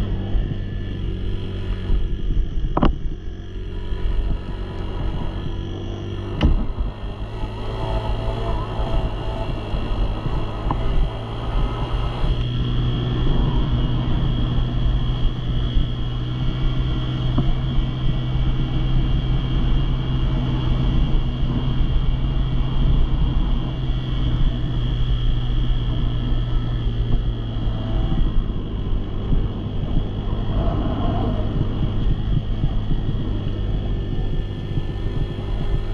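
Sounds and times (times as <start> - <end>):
engine running steadily: 0.0 - 35.9.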